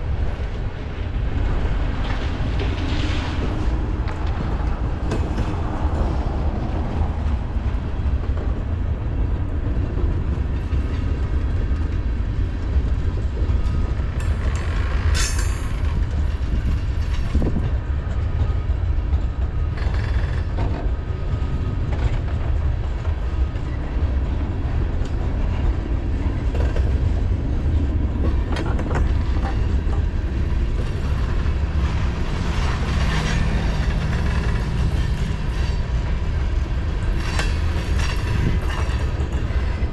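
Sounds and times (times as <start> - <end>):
train cars clacking: 0.0 - 39.9
train wheels rumbling on rail: 0.0 - 39.9.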